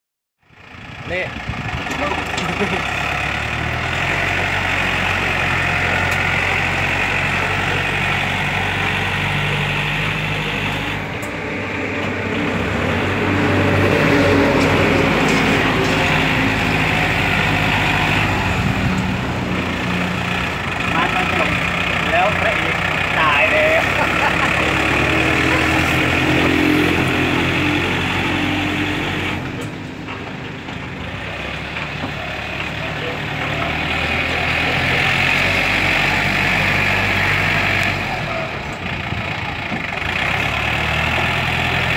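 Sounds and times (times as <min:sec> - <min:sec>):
tractor diesel engine running: 0:00.4 - 0:41.9.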